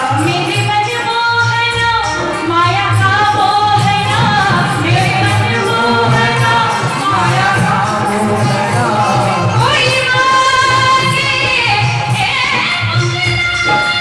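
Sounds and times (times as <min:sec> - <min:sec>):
instrumental accompaniment: 0:00.0 - 0:14.0
steady percussion beat: 0:00.0 - 0:14.0
woman singing devotional song: 0:00.0 - 0:14.0.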